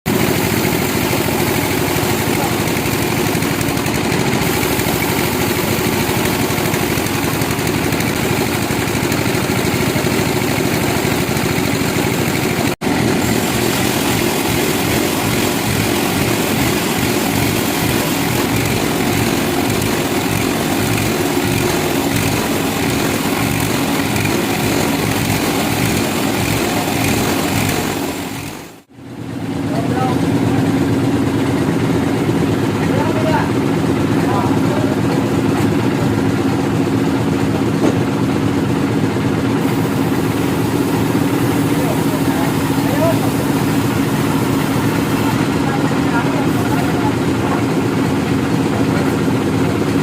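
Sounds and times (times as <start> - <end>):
sawmill machinery drone: 0.1 - 50.0.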